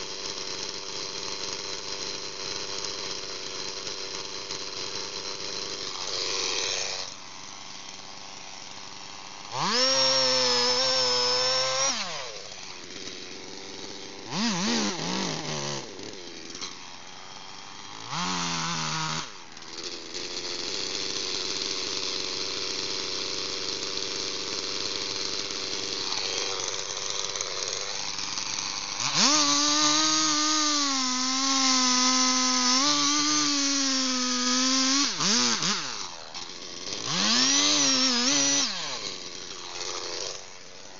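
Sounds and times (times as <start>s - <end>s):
chainsaw revving and idling: 0.0s - 40.9s
chainsaw sawing into trunk: 0.0s - 40.9s.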